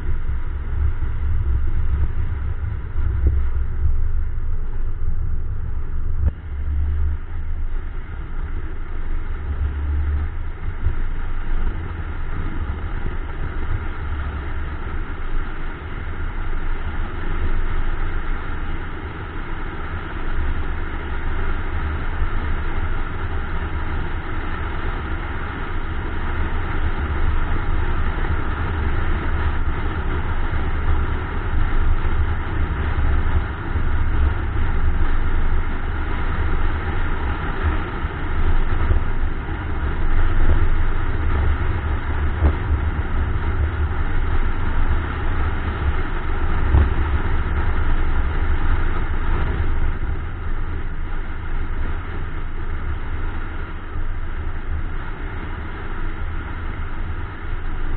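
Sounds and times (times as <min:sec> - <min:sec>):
heavy uneven low rumble: 0:00.0 - 0:57.9
road and wind noise: 0:00.0 - 0:57.9.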